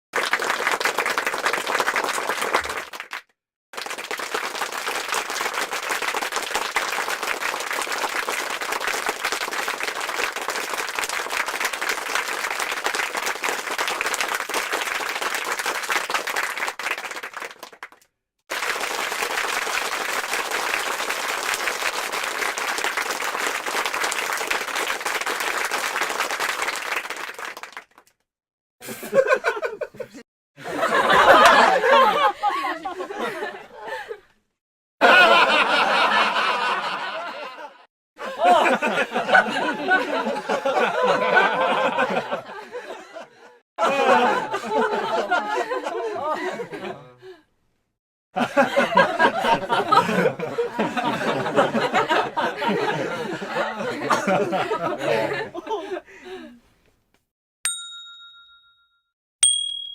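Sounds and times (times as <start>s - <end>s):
crowd applause: 0.1s - 3.2s, 3.8s - 28.0s, 30.6s - 34.0s, 35.0s - 37.6s, 38.3s - 42.9s, 43.8s - 47.0s, 48.4s - 55.6s.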